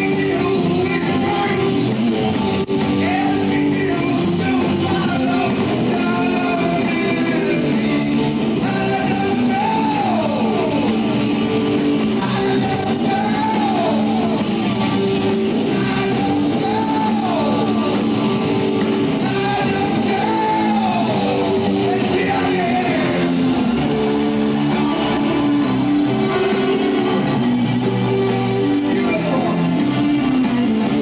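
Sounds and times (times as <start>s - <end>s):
person singing: 0.0s - 27.8s, 28.4s - 31.0s
rock band playing: 0.0s - 31.0s.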